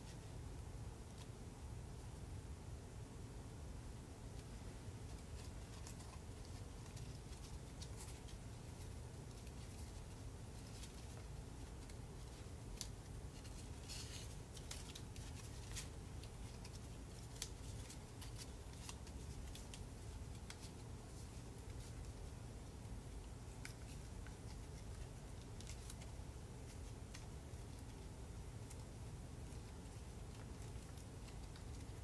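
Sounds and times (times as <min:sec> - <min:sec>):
low steady hum: 0:00.0 - 0:32.0
paper rustle: 0:05.0 - 0:22.3, 0:23.1 - 0:32.0
paper crinkling and folding: 0:05.0 - 0:22.4, 0:23.1 - 0:32.0.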